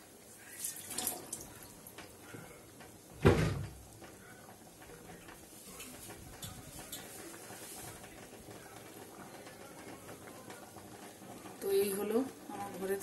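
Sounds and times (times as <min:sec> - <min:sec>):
faint bubbling of boiling lentils: 0:00.0 - 0:13.0.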